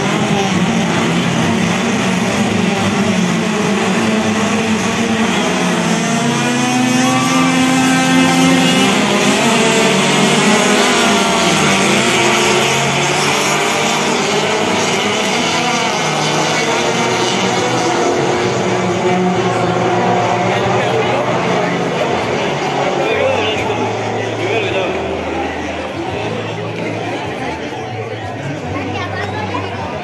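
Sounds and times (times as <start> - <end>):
race car engines revving: 0.0 - 30.0.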